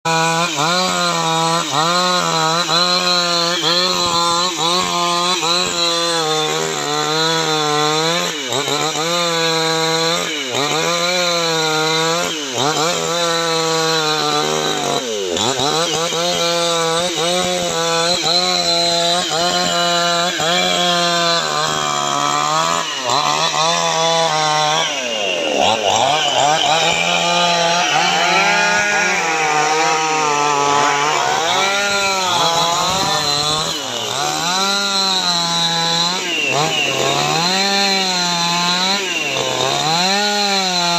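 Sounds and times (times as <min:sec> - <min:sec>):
chainsaw ripping a log: 0:00.1 - 0:40.9.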